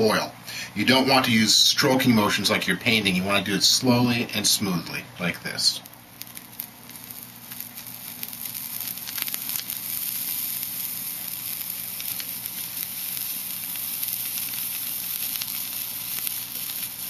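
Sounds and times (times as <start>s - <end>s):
flux sizzling with crackles and pops: 0.0s - 17.0s.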